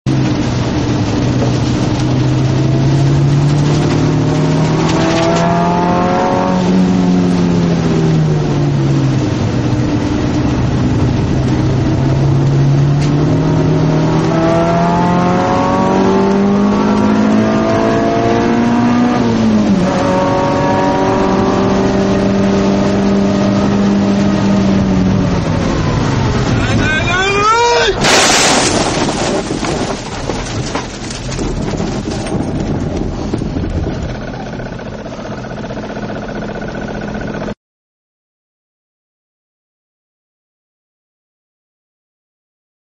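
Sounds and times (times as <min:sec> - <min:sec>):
race car engine accelerating: 0:00.1 - 0:37.6.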